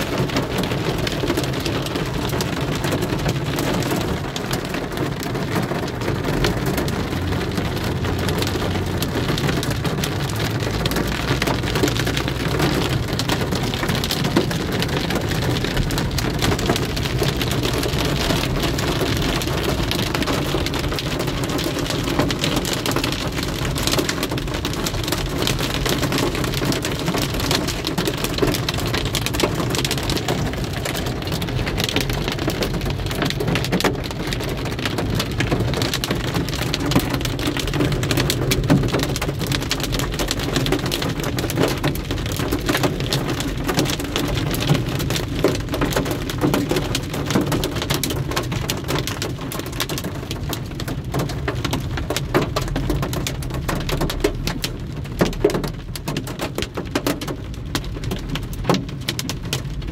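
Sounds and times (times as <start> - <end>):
car humming: 0.0 - 53.7
heavy rain on car windshield: 0.0 - 59.9.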